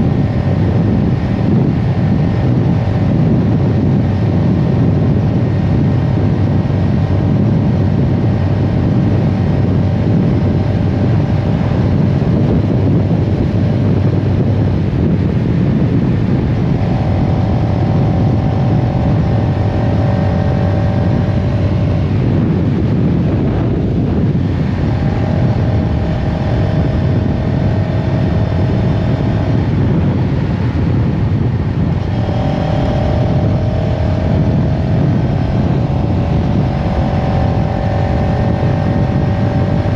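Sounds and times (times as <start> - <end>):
heavy rush of noise: 0.0 - 39.9
motorcycle engine running: 0.0 - 39.9.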